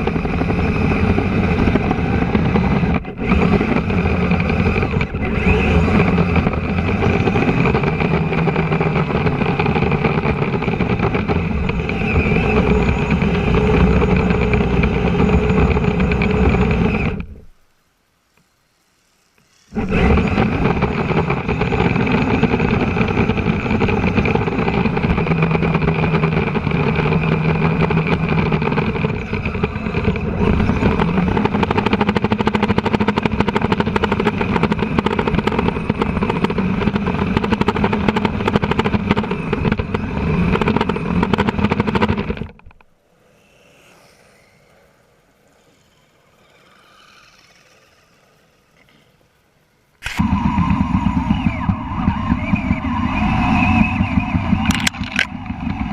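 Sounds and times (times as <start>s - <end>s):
toy tracked vehicle running: 0.0s - 17.4s, 19.0s - 49.4s, 50.0s - 55.9s
motor whine: 0.0s - 17.7s, 19.0s - 49.2s, 50.0s - 55.9s.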